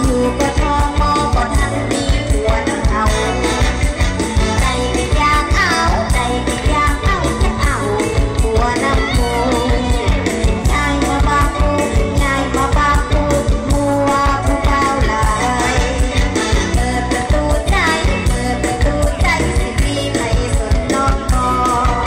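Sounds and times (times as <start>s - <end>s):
person singing melody: 0.0s - 22.0s.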